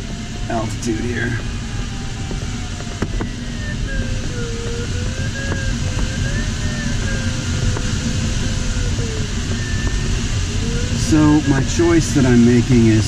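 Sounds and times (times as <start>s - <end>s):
cockpit airflow noise: 0.0s - 13.0s
variometer tone wavering: 0.0s - 13.0s.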